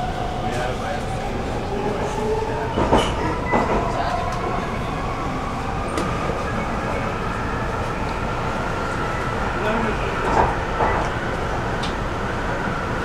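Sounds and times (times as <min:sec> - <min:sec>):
metro train rumble and whine: 0:00.0 - 0:13.0.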